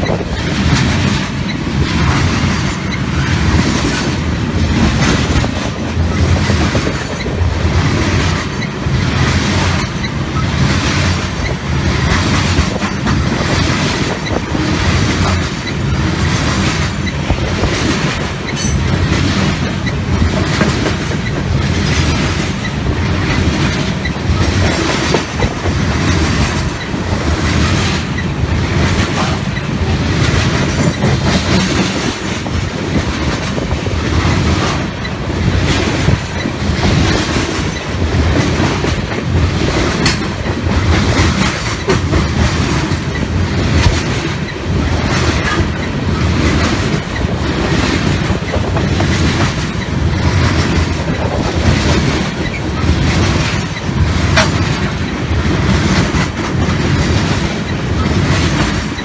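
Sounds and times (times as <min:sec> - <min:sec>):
train wheels rumbling on rails: 0:00.0 - 0:59.0
wheels clickety-clack on rail joints: 0:00.0 - 0:59.0.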